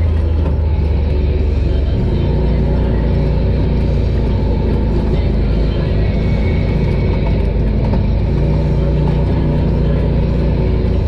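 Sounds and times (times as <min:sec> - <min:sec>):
music playing: 0:00.0 - 0:11.0
off-road vehicle engine running: 0:00.0 - 0:11.0.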